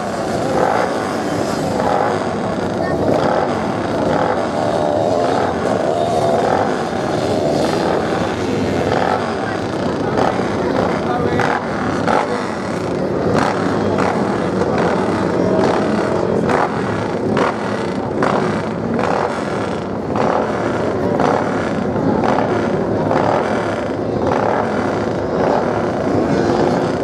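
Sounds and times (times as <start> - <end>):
motocross bike engine running: 0.0 - 27.0.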